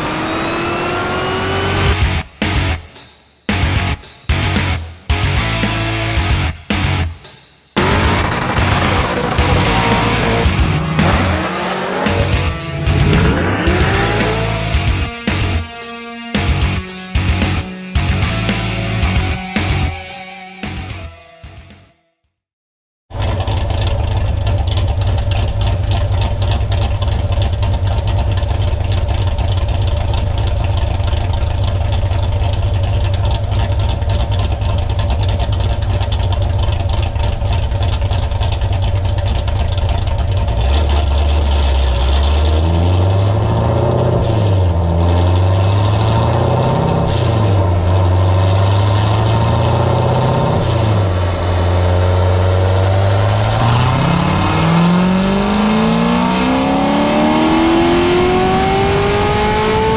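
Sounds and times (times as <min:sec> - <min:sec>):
car engine idling and revving: 0:00.0 - 0:20.9, 0:23.1 - 0:59.9.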